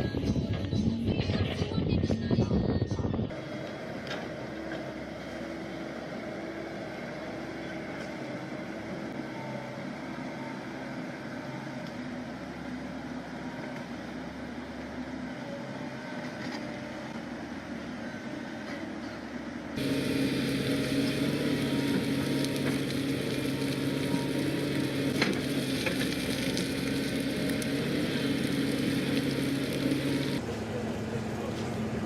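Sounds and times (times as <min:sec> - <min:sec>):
engine humming: 0:03.1 - 0:32.0.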